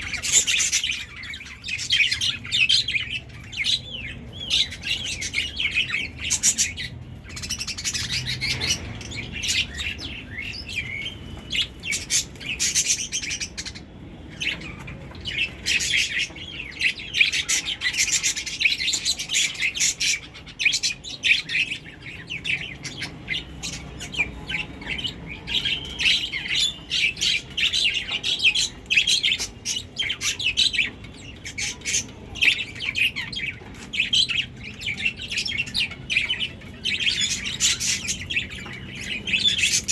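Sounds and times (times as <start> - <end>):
budgerigars chattering: 0.0 - 13.8, 14.4 - 39.9.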